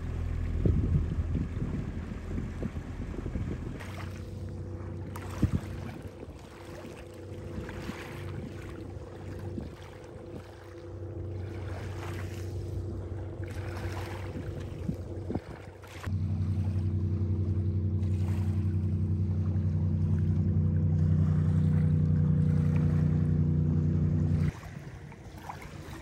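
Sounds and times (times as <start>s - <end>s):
boat motor running: 0.0s - 26.0s.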